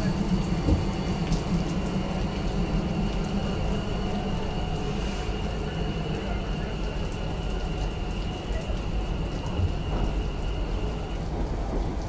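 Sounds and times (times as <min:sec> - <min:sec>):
water spray and rotating brushes: 0:00.0 - 0:11.1.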